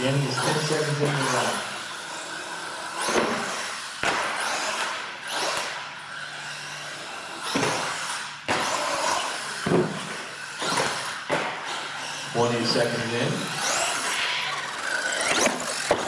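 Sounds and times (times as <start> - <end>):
radio-controlled truck motor and tyres: 0.0 - 16.0.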